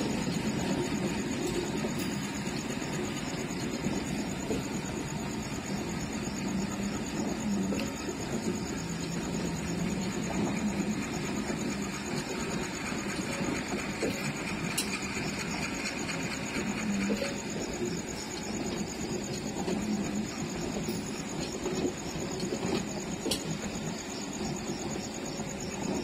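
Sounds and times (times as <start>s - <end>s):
wheels clicking over rail joints: 0.0s - 26.0s
wheels rumbling on rails: 0.0s - 26.0s.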